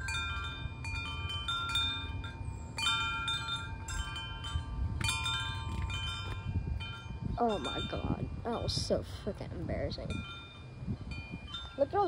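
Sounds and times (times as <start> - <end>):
wind chimes ringing: 0.0 - 9.0, 9.8 - 12.0
low wind rumble: 0.0 - 12.0.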